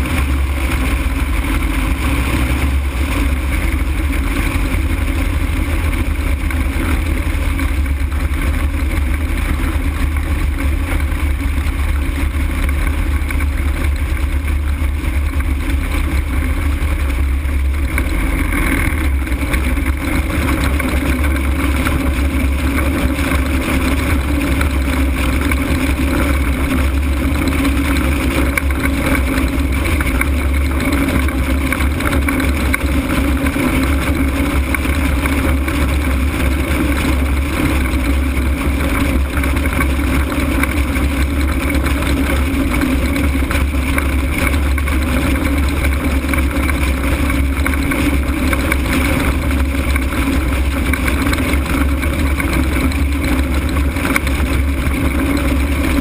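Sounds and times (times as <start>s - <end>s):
aircraft engine and propeller: 0.0s - 56.0s.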